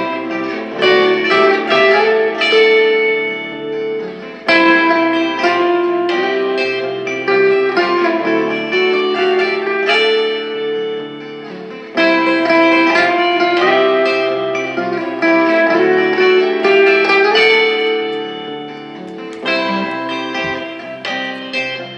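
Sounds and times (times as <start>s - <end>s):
clean electric guitar chords: 0.0s - 21.9s.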